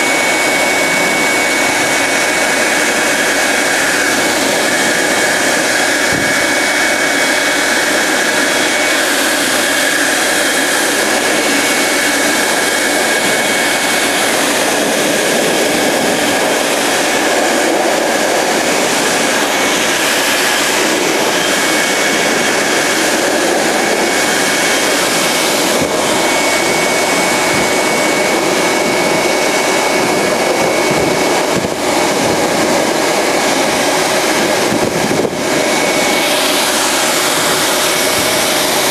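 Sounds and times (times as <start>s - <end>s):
grooming blower rushing: 0.0s - 38.9s.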